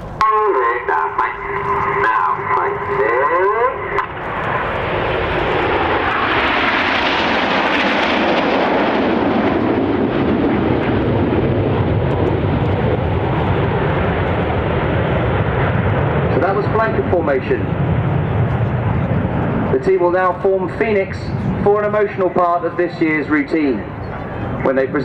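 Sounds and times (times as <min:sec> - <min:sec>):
jets flying over roaring: 0:00.0 - 0:25.0.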